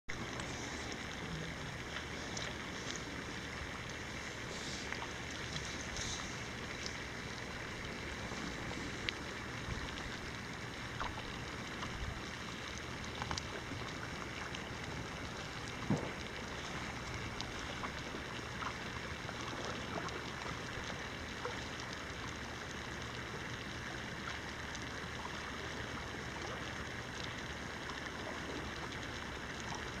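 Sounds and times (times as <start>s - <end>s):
melting ice crackling and fizzing: 0.1s - 30.0s.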